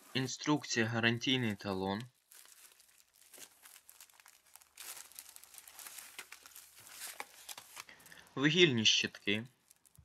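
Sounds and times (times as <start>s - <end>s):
plastic sleeve and paper crinkling: 0.0s - 8.2s, 9.0s - 10.0s.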